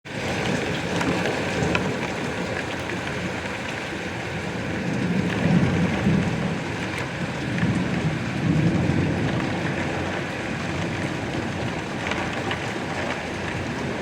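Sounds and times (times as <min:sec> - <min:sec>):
raindrops tapping: 0:00.1 - 0:14.0
steady rain falling: 0:00.1 - 0:14.0.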